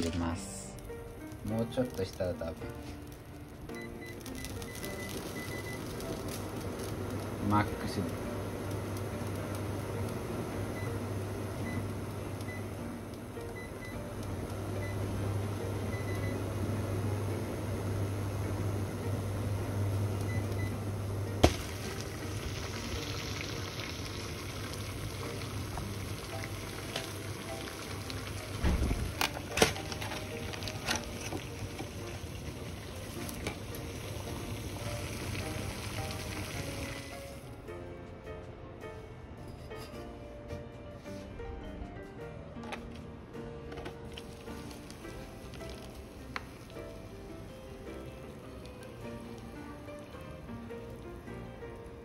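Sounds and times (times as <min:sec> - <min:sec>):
water boiling in a saucepan: 0:00.0 - 0:37.5, 0:44.1 - 0:52.0.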